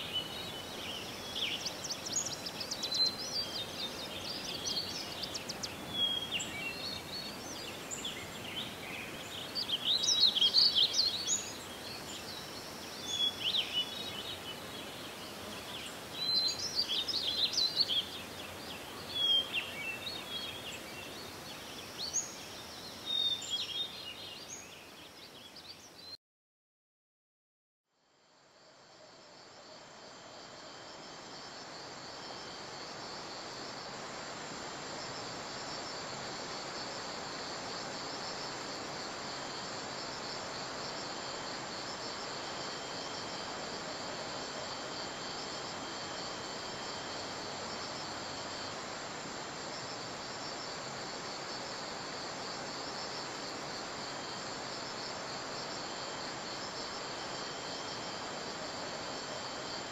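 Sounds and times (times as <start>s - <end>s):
insects chirping: 0.0s - 25.9s, 28.3s - 59.9s.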